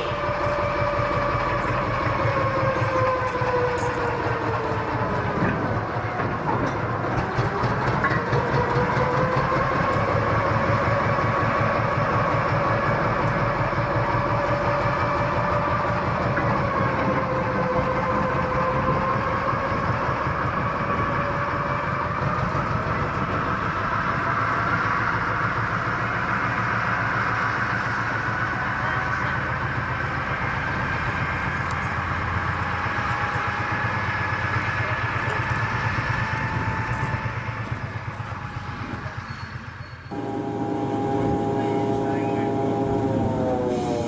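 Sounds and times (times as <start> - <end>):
diesel locomotive engine running: 0.0 - 44.0.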